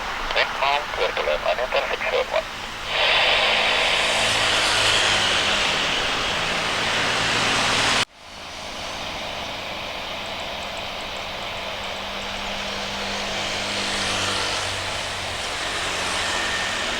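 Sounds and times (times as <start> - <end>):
jet engines at high power: 0.0 - 16.9
quieter steady jet engine noise: 0.0 - 16.9.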